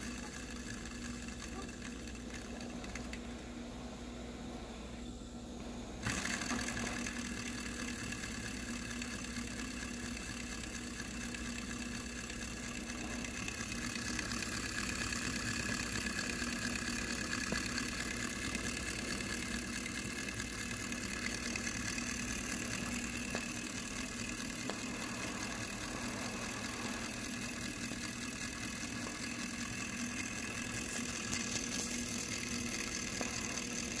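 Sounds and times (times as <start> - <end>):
engine mechanical whir: 0.0 - 34.0.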